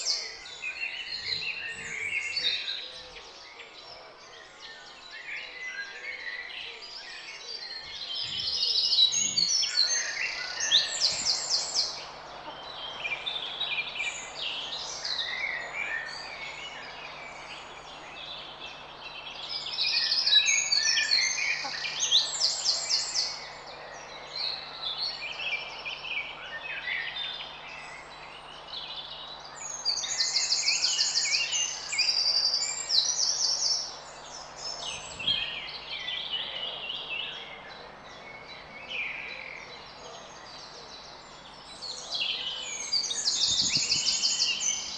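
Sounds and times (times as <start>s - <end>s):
birds singing and chirping: 0.0s - 44.9s.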